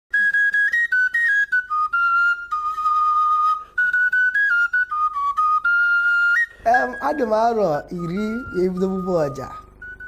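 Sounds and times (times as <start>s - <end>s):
wooden flute melody: 0.1s - 10.0s.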